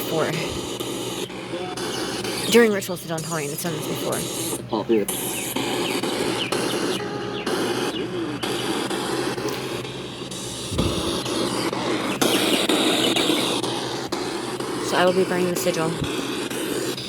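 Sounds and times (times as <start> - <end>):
recorded birdsong through small speaker: 0.0 - 17.0
steady hiss and low hum: 0.0 - 17.0.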